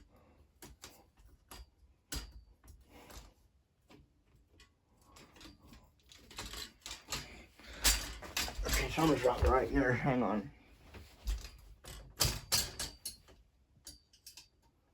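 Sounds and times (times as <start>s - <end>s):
clatter and rustling: 0.6s - 10.2s, 10.9s - 14.5s.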